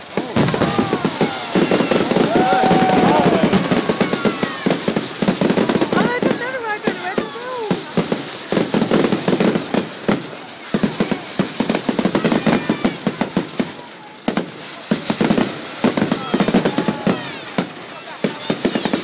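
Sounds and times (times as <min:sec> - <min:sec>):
fireworks crackling and banging: 0:00.0 - 0:19.0
whistling fireworks: 0:00.0 - 0:19.0.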